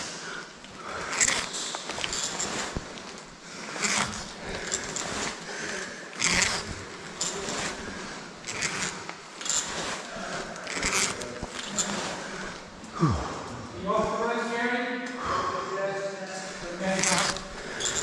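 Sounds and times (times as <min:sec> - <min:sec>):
rope rasping through ascenders: 0:00.0 - 0:14.2, 0:16.2 - 0:18.0.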